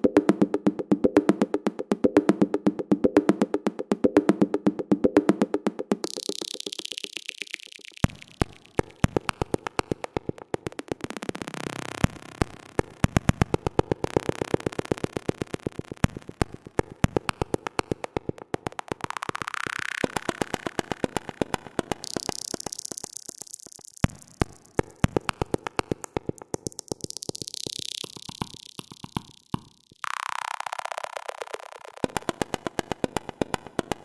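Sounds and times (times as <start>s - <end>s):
electronic music with clicking beat: 0.0s - 34.0s.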